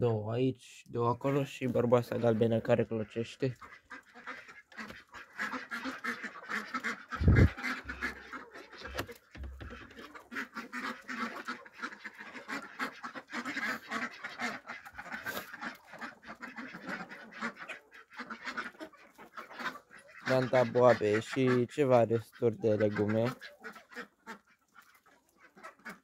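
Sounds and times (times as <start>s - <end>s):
ducks quacking: 1.2s - 26.0s.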